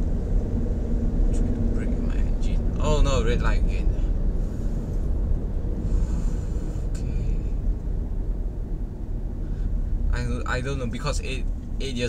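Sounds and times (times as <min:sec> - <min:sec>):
car engine near idle: 0:00.0 - 0:12.0
road and tyre rumble: 0:00.0 - 0:12.0.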